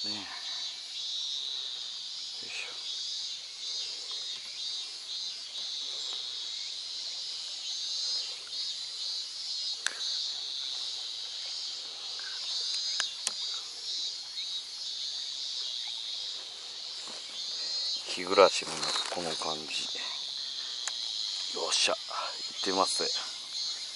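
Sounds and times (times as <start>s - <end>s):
cicadas chorus: 0.0s - 23.9s.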